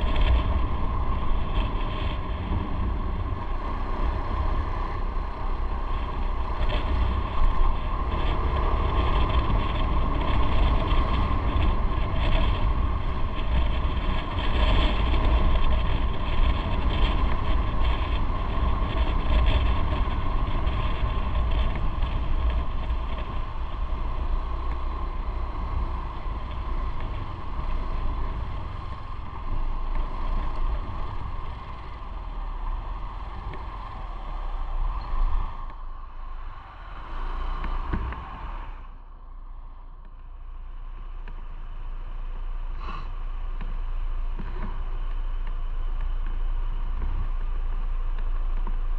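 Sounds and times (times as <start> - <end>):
motorcycle engine running: 0.0 - 48.9
road and wind noise: 0.0 - 48.9.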